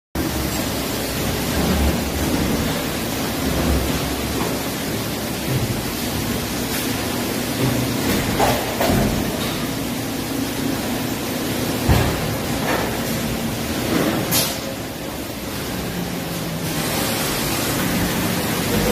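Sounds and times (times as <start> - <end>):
injection molding machine hum: 0.2 - 18.9.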